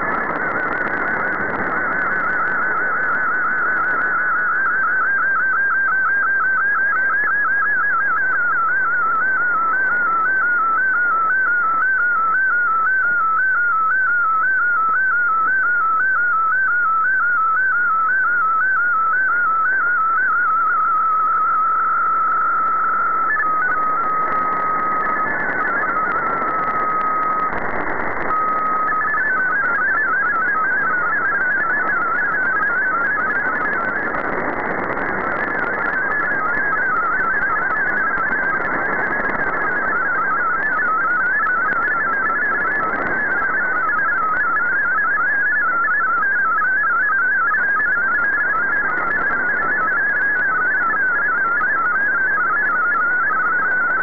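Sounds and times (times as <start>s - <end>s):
receiver static: 0.0s - 54.0s.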